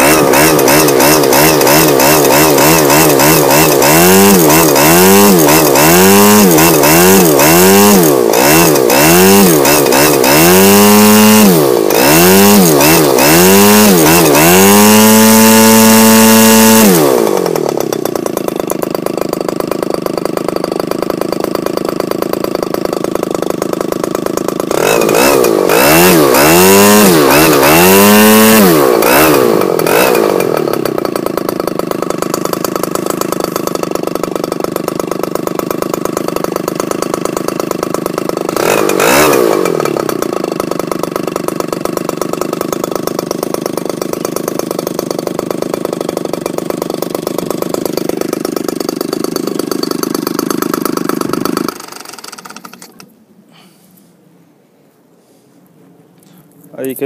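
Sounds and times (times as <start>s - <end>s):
model aircraft engine revving: 0.0s - 53.6s.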